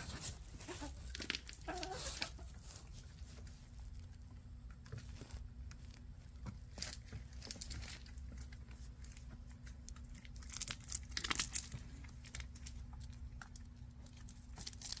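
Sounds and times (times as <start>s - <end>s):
dry rustling and crackling: 0.0s - 4.2s, 4.8s - 15.0s.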